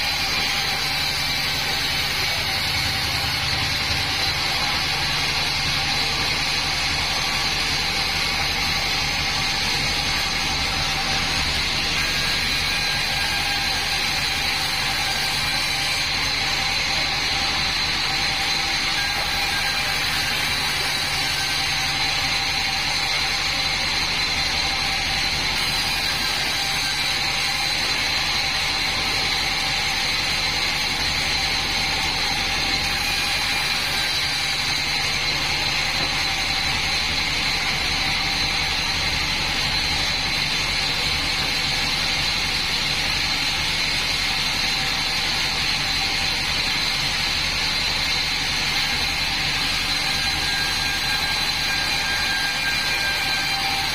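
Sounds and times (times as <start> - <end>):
band sawmill running with high whine: 0.0 - 53.9.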